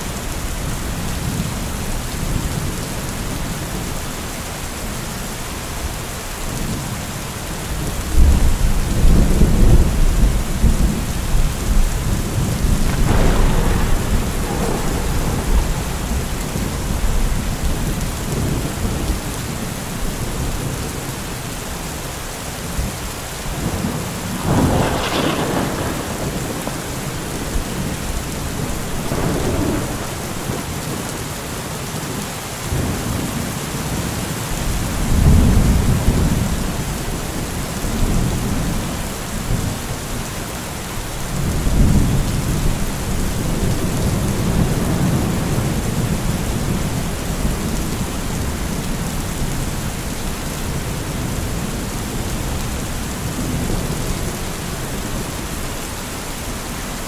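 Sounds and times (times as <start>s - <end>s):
heavy rain falling: 0.0s - 57.0s
rolling thunder: 7.6s - 21.3s, 22.6s - 40.2s, 41.2s - 55.7s.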